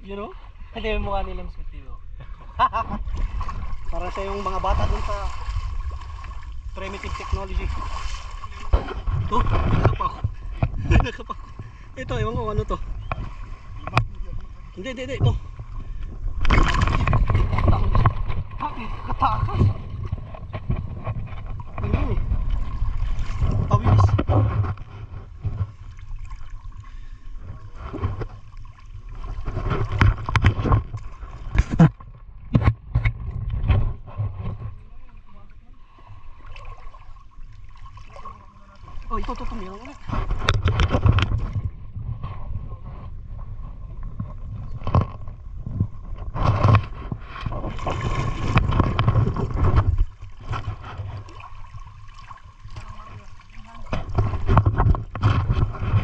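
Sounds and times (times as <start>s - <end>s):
wind rumble on microphone: 0.7s - 35.2s, 39.0s - 56.0s
river water splashing: 2.4s - 32.5s, 33.1s - 42.0s, 44.2s - 56.0s.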